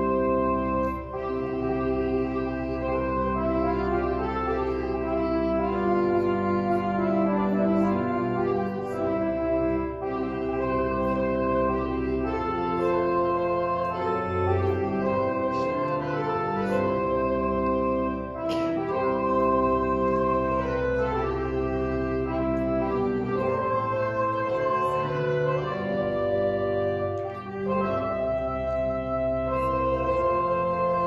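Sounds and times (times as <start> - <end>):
organ playing hymn chords: 0.0 - 31.0.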